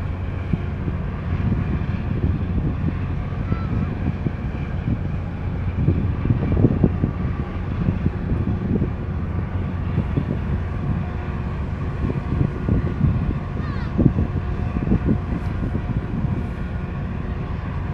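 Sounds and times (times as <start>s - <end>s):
ship engines rumbling: 0.0s - 17.9s
wind gusting on microphone: 0.0s - 17.9s.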